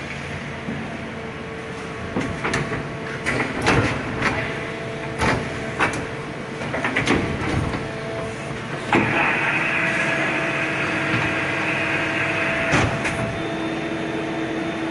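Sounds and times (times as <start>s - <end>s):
machining centre humming: 0.0s - 14.9s.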